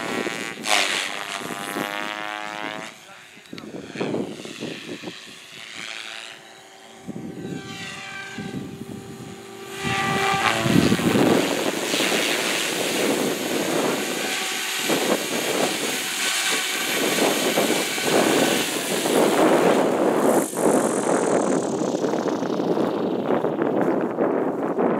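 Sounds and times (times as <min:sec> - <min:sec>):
radio-controlled helicopter whining: 0:00.0 - 0:24.9.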